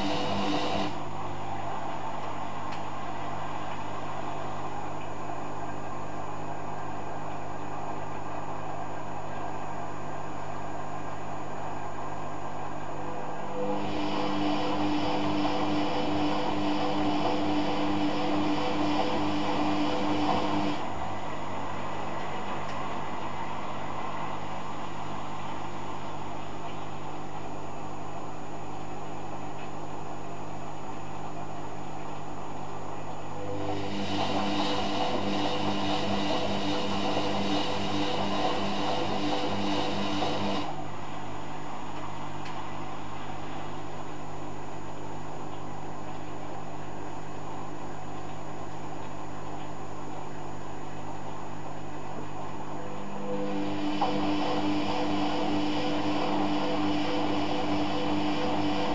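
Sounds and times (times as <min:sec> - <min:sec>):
washing machine running: 0:00.0 - 0:58.9.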